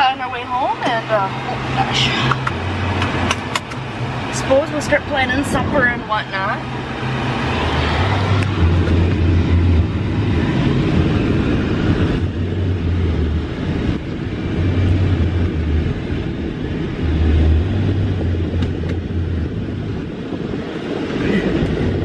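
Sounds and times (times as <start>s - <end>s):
road noise: 0.0s - 22.0s
wind buffeting microphone: 0.0s - 22.0s
wind rushing through car window: 0.0s - 22.0s.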